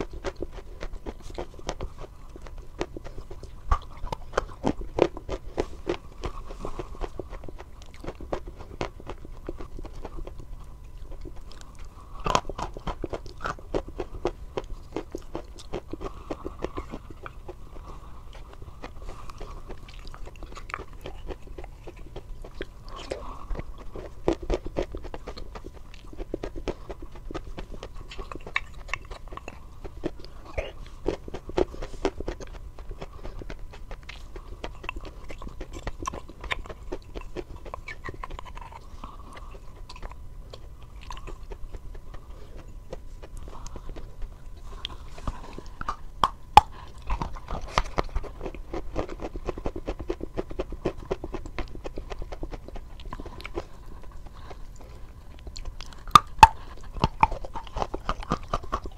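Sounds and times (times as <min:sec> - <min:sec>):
crunchy chewing: 0:00.0 - 0:58.9.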